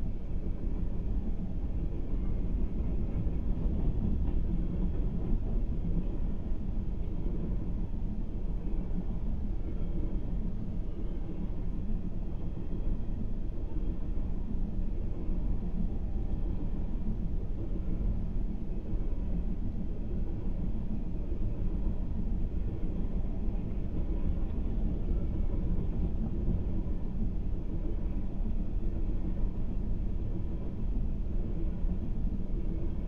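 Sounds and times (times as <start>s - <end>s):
muffled freight train rumble: 0.0s - 33.0s.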